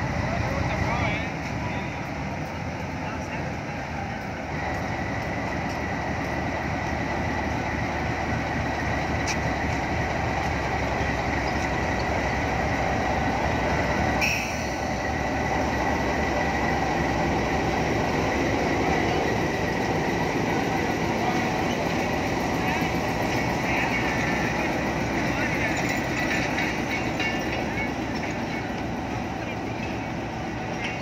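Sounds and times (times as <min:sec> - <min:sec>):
locomotive rumbling with high whine: 0:00.0 - 0:31.0.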